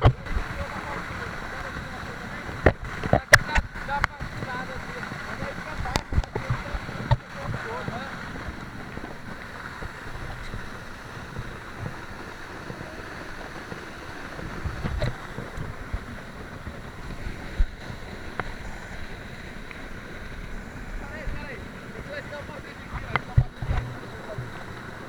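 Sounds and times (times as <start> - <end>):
waterfall rushing: 0.0 - 25.0
wind buffeting microphone: 0.0 - 25.0.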